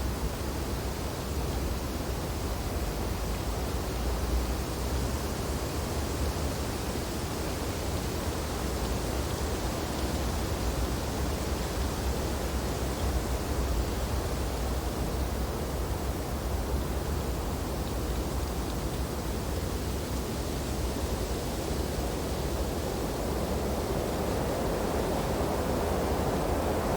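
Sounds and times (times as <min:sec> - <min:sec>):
wind through tree branches: 0:00.0 - 0:26.9.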